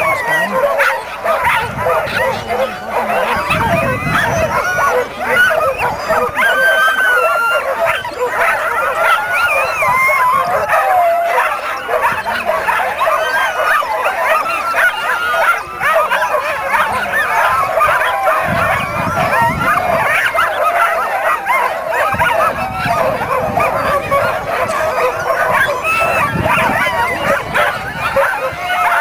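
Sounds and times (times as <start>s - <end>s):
sled dogs barking and yelping: 0.0s - 29.0s.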